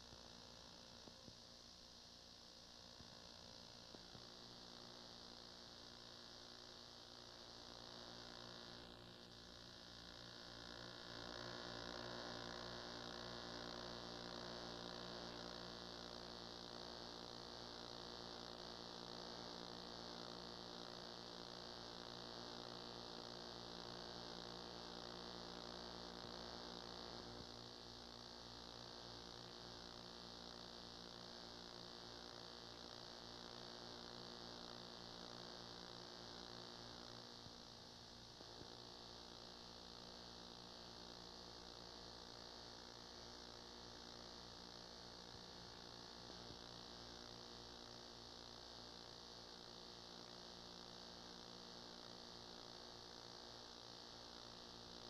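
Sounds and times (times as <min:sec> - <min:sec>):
electrical mains hum: 0:00.0 - 0:55.0
tape hiss: 0:00.0 - 0:55.0.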